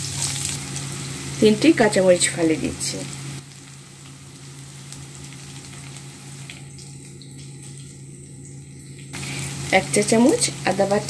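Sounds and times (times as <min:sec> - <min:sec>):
faint hum: 0:00.0 - 0:11.0
onions frying in oil: 0:00.0 - 0:11.0.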